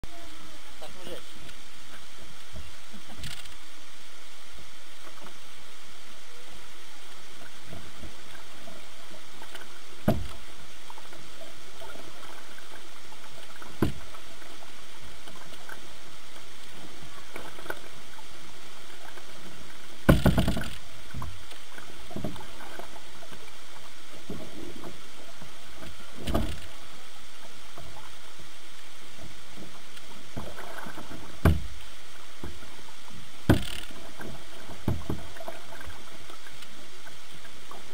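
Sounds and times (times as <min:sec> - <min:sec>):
water washing against hull: 0:06.9 - 0:37.9.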